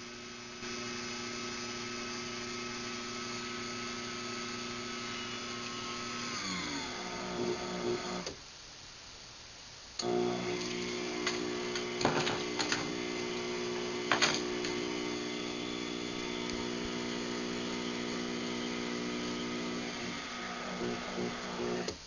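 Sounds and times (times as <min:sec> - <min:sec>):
garage door opener motor humming: 0:00.0 - 0:08.4, 0:10.0 - 0:22.0.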